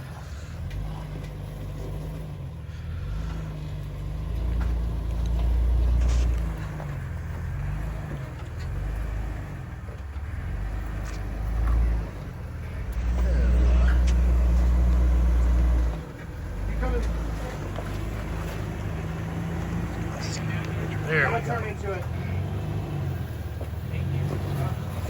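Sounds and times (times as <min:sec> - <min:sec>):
off-road vehicle engine at low revs: 0:00.0 - 0:25.0.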